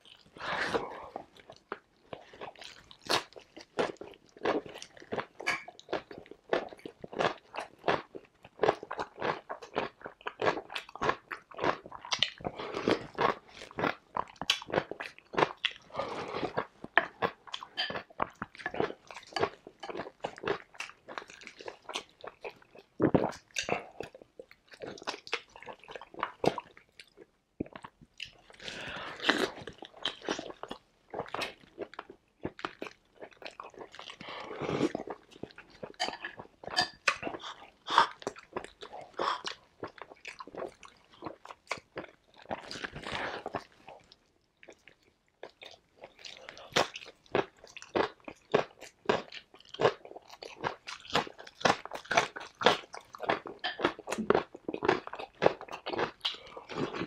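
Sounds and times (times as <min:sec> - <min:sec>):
man chewing and crunching food: 0:00.0 - 0:57.0.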